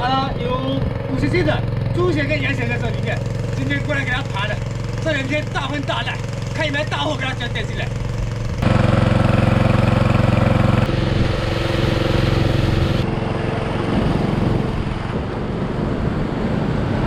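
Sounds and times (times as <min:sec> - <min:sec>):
small petrol water pump engine: 0:00.0 - 0:17.0.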